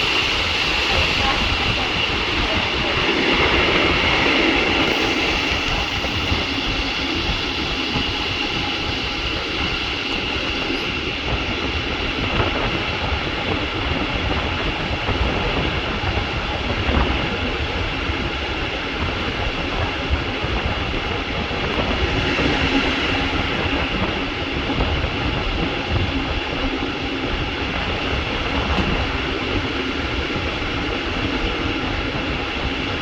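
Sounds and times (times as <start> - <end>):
high steady whine: 0.0 - 33.0
train rolling rumble: 0.0 - 33.0
wheels knocking on track: 0.0 - 33.0.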